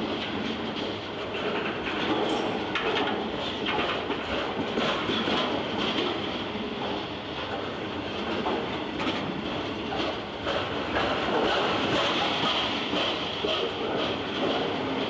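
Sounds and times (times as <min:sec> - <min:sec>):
wheels clunking over track: 0:00.0 - 0:15.0.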